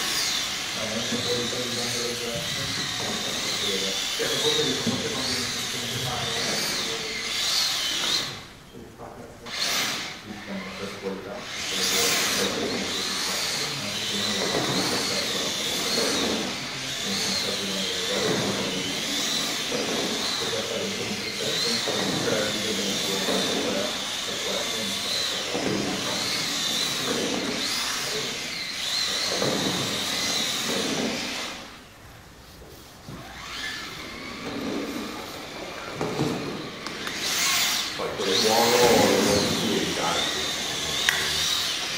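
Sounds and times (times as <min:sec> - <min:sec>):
small electric motor whining: 0:00.0 - 0:31.9, 0:33.0 - 0:41.9.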